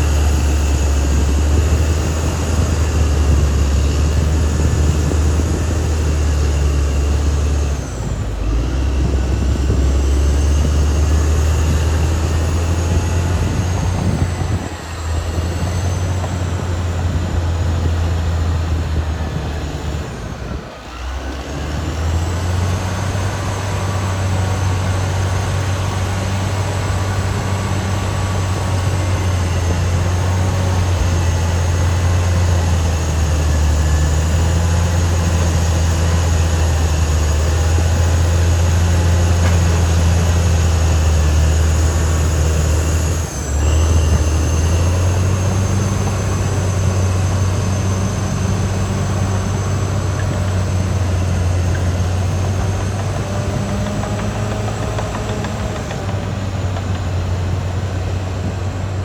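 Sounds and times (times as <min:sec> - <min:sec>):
bulldozer engine humming: 0:00.0 - 0:59.0.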